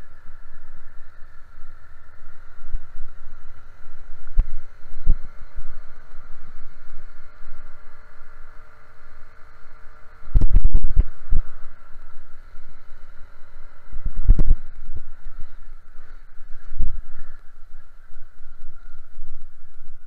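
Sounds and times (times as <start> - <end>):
small engine running: 0.0 - 20.0
wind rumble: 0.0 - 20.0.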